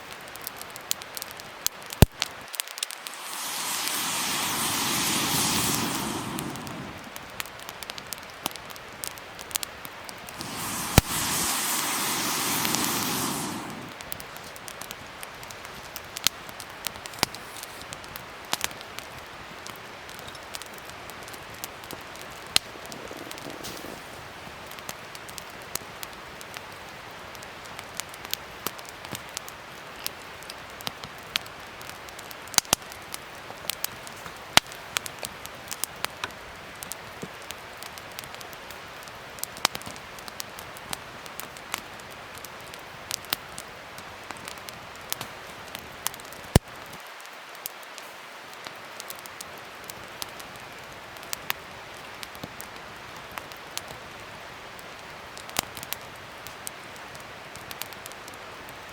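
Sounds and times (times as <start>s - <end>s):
wood fire crackling: 0.1s - 58.8s.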